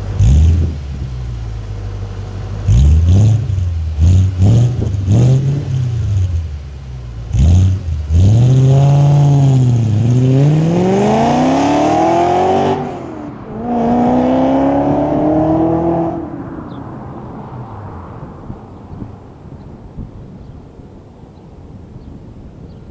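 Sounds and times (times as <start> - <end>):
car engine accelerating hard: 0.0 - 18.8.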